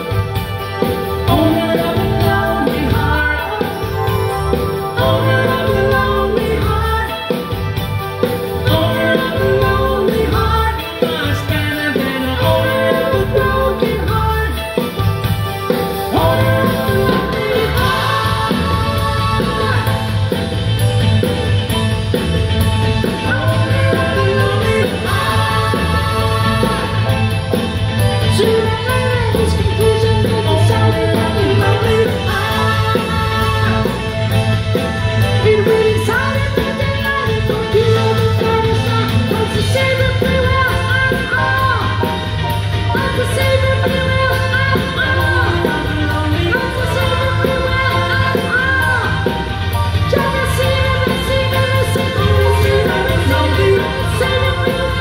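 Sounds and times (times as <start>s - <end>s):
lead vocals singing: 0.0s - 20.8s, 23.0s - 55.0s
live rock band playing: 0.0s - 55.0s.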